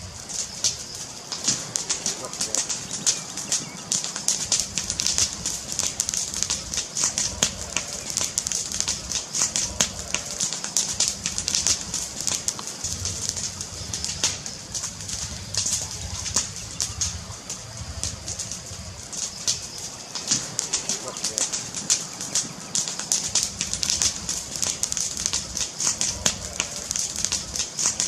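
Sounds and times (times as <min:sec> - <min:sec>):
fire crackling and popping: 0:00.0 - 0:28.0
steady hiss: 0:00.0 - 0:28.0
low rumble: 0:04.5 - 0:22.6, 0:23.3 - 0:27.6.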